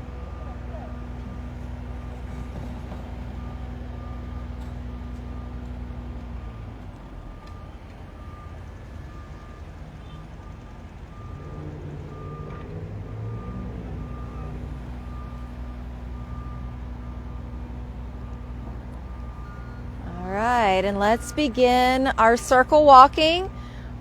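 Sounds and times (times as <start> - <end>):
heavy engine rumble: 0.0 - 24.0
reversing alarm beeping: 0.0 - 24.0.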